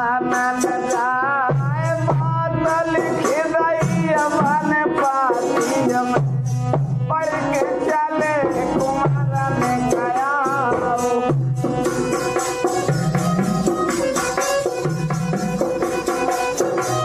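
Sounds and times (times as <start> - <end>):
percussion steady beat: 0.0 - 17.0
wavering folk melody: 1.8 - 17.0.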